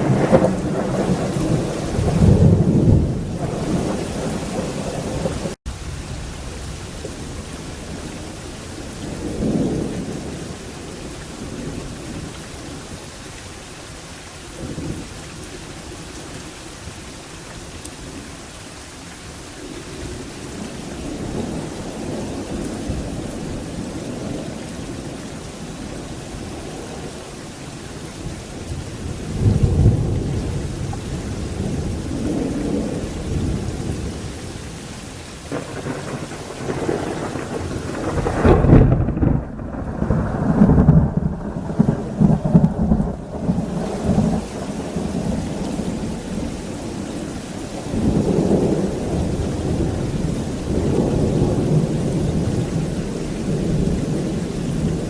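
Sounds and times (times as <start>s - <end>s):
thunder rumbling: 0.0s - 13.0s, 20.0s - 34.7s, 35.5s - 55.0s
heavy rain falling: 0.0s - 55.0s.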